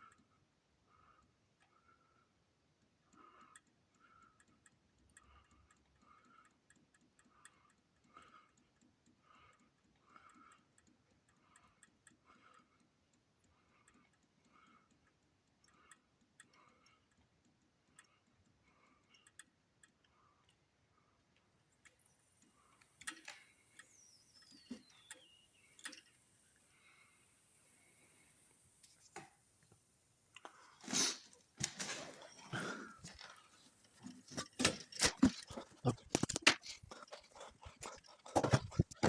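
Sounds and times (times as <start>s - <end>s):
faint regular ticking: 0.0s - 39.0s.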